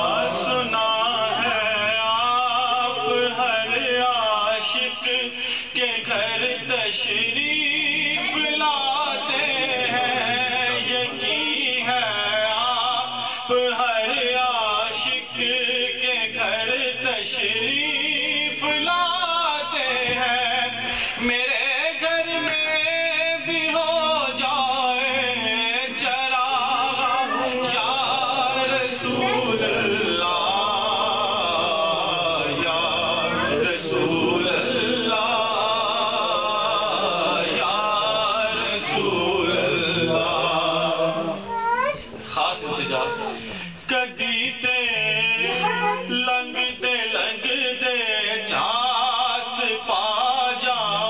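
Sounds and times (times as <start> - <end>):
man singing devotional song: 0.0 - 51.0.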